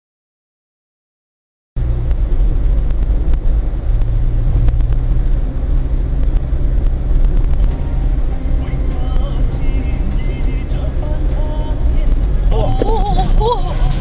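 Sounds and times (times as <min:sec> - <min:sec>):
car engine and tyres rumbling: 0:01.8 - 0:14.0.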